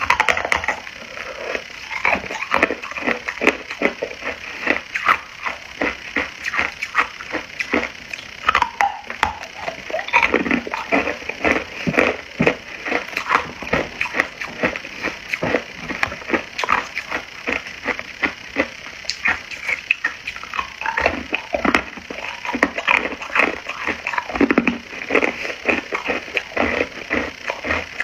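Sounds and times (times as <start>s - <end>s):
ice being chewed: 0.0s - 28.0s.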